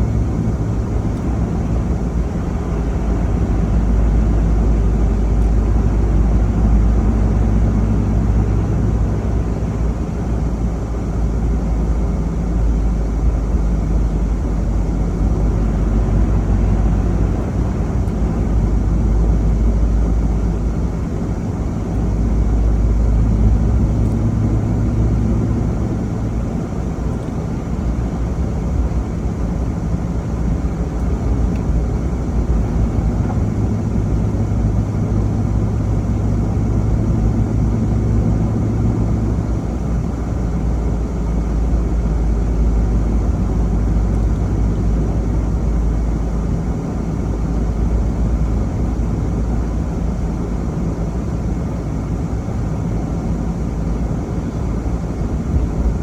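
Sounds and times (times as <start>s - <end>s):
vehicle driving rumble: 0.0s - 56.0s.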